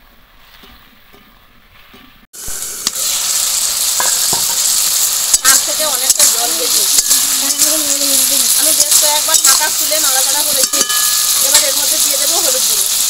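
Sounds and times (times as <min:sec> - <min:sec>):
vegetables sizzling in hot oil: 0:02.4 - 0:13.0.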